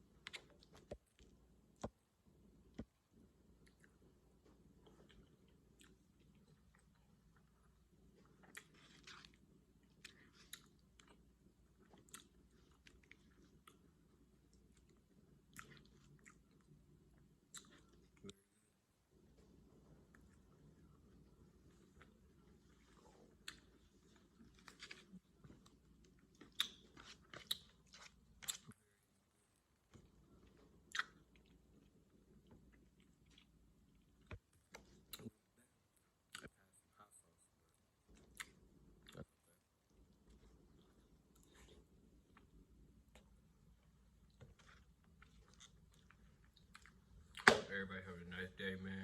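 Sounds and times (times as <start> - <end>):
faint close-up chewing: 0.0 - 2.0, 2.6 - 18.5, 19.1 - 47.5
low steady hum: 0.0 - 49.0.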